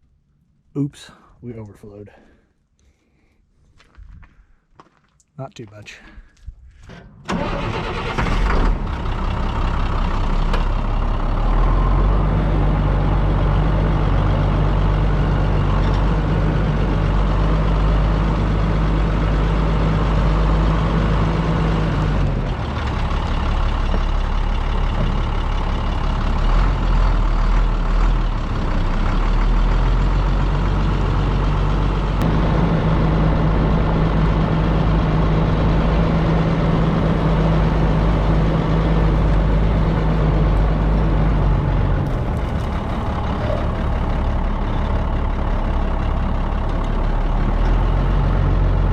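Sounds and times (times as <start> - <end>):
diesel engine cranking and running: 6.7 - 48.9.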